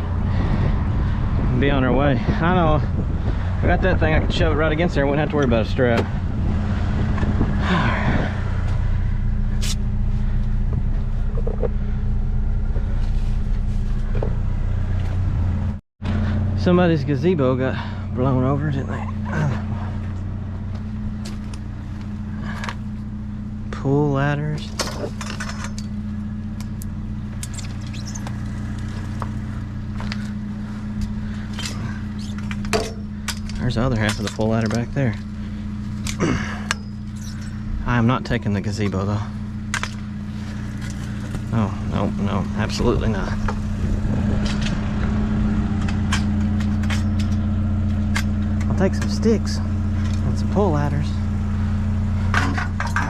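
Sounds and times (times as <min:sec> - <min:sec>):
vehicle engine and road drone: 0:00.0 - 0:53.0.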